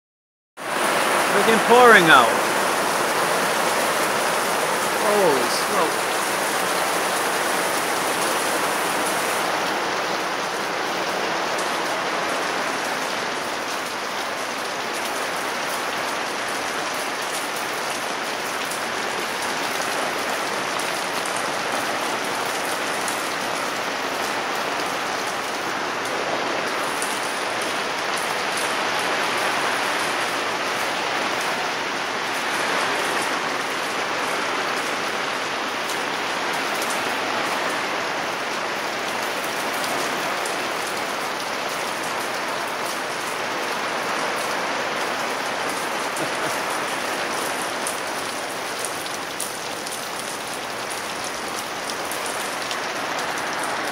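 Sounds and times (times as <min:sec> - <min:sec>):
heavy rain on fabric canopy: 0:00.6 - 0:53.9.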